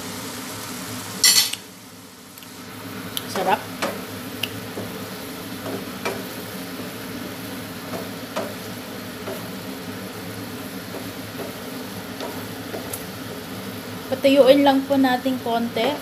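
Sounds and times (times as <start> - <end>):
paste sizzling in a frying pan: 0.0 - 16.0.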